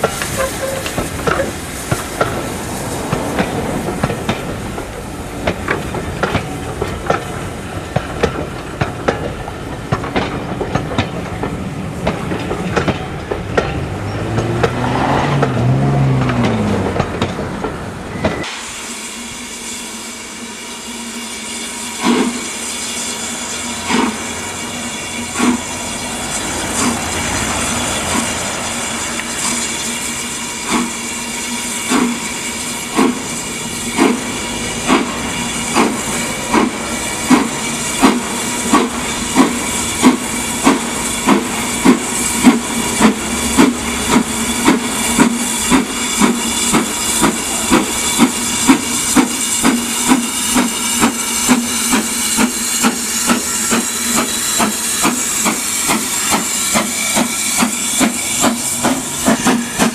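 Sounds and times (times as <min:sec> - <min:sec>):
steady hiss of steam: 0:00.0 - 0:14.0, 0:17.9 - 0:59.9
steam locomotive exhaust beats: 0:00.0 - 0:59.9.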